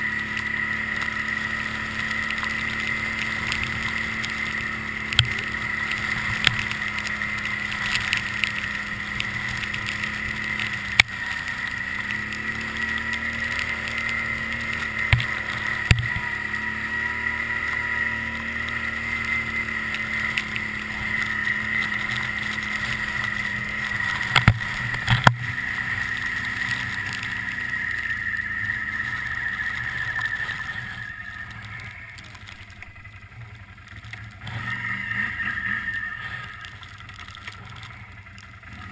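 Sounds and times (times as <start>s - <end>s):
atv engine running: 0.0s - 38.9s
high steady whine: 0.0s - 38.9s.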